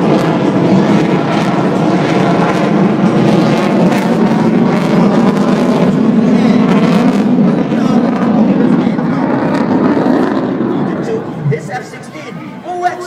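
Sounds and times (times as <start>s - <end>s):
fighter jet flying past: 0.0s - 13.0s.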